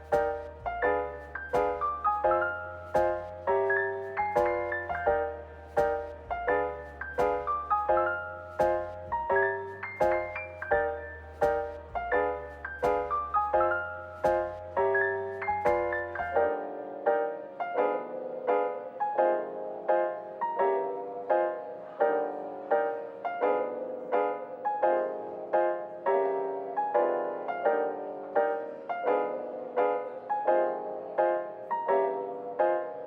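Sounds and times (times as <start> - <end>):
gentle piano chords: 0.0 - 33.0.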